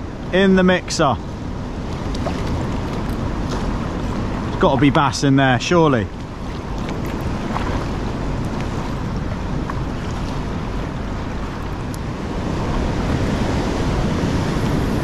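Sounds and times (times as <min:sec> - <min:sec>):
wind buffeting microphone: 0:00.0 - 0:15.0
sea water sloshing around kayak: 0:01.0 - 0:15.0.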